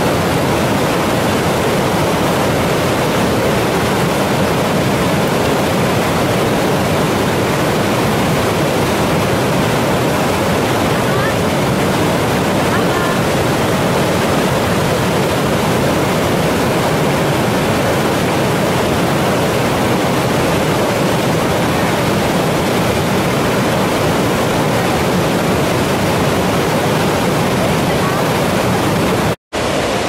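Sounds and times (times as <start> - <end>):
rapids rushing over boulders: 0.0 - 30.0.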